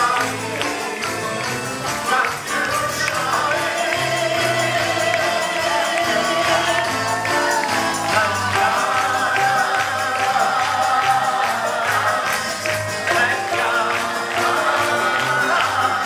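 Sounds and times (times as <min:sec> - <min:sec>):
band playing a steady beat: 0:00.0 - 0:16.0
people singing worship music: 0:00.0 - 0:16.0.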